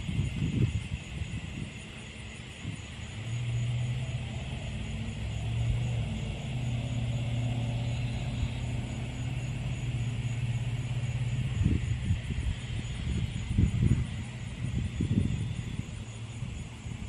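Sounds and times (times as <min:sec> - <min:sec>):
engine humming: 0:02.3 - 0:17.0.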